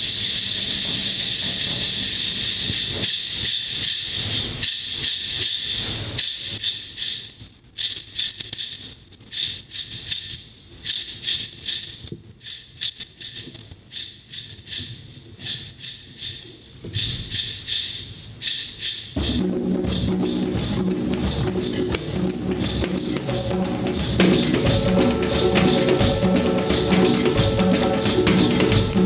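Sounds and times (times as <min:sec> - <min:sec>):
drums: 0:00.0 - 0:29.0.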